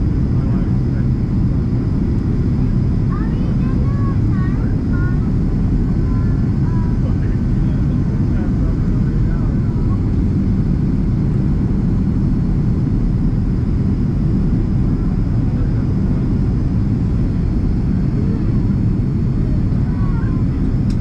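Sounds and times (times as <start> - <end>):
jet cabin engine roar: 0.0 - 21.0.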